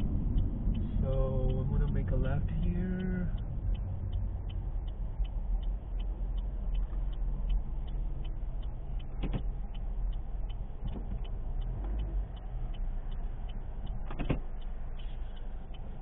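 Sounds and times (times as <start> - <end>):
car turn signal ticking: 0.0 - 16.0
road and engine rumble: 0.0 - 16.0.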